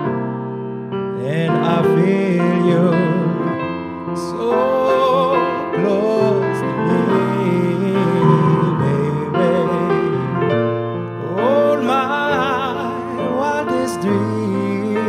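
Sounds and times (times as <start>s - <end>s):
grand piano accompaniment: 0.0s - 15.0s
man singing with vibrato: 1.2s - 15.0s.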